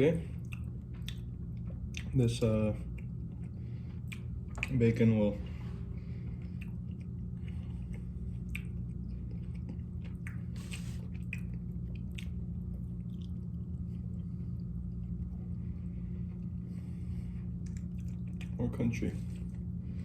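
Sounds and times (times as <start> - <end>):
steady low hum: 0.0 - 20.0
person chewing food: 0.3 - 2.2, 2.8 - 4.8, 5.9 - 18.6.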